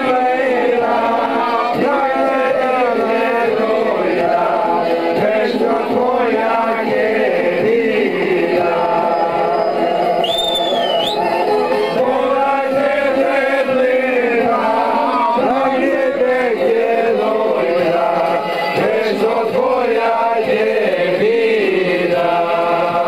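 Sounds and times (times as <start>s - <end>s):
men singing in chorus: 0.0s - 23.0s.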